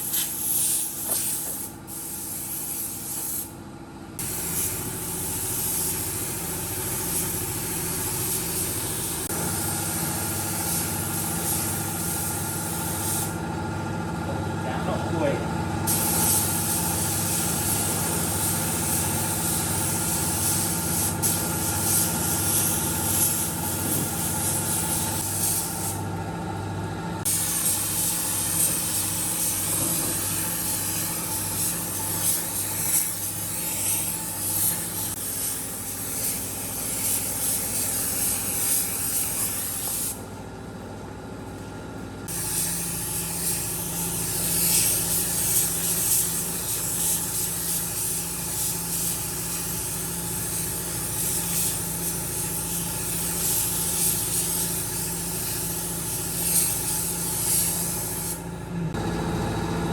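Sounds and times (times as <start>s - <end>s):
air spray gun hissing: 0.0s - 3.6s, 4.2s - 13.4s, 15.8s - 26.0s, 27.2s - 40.2s, 42.2s - 58.5s.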